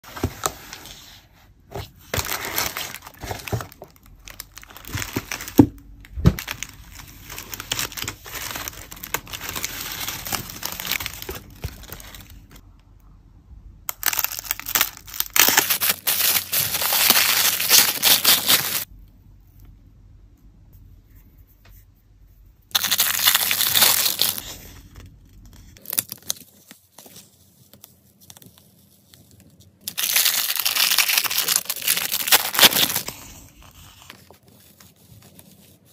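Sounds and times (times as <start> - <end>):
packaging crinkling and rustling: 1.8 - 12.6, 13.9 - 18.9, 22.7 - 35.9.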